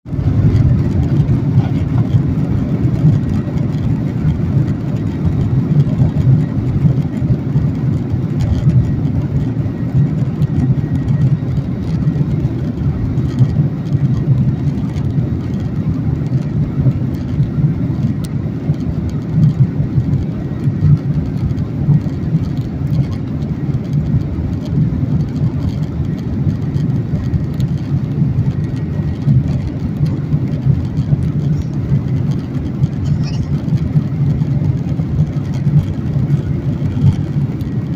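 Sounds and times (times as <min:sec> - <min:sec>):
jet engines rumbling: 0:00.0 - 0:37.9.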